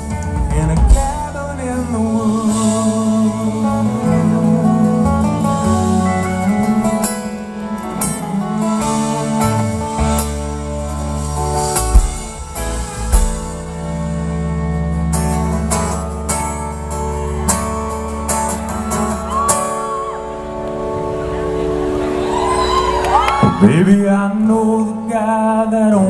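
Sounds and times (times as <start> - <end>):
country band playing: 0.0 - 26.0
guitars: 0.0 - 26.0.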